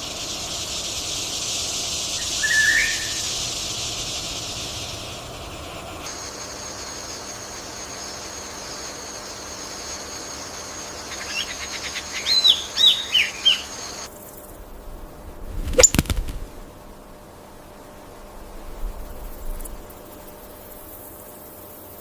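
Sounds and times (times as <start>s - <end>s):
steady high buzz: 0.0s - 22.0s.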